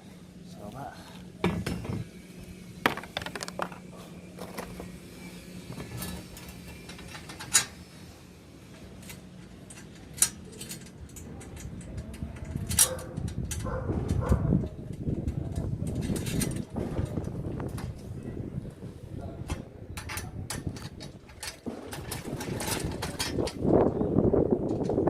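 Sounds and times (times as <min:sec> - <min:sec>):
steady low hum: 0:00.0 - 0:20.4.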